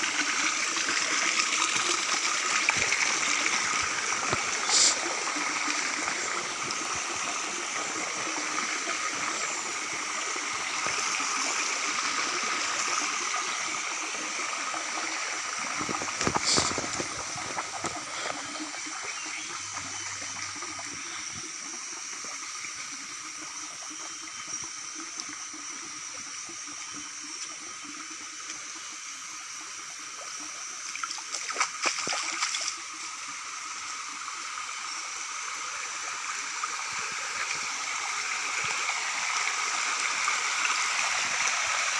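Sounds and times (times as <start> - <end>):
stream trickling over rocks: 0.0 - 41.9.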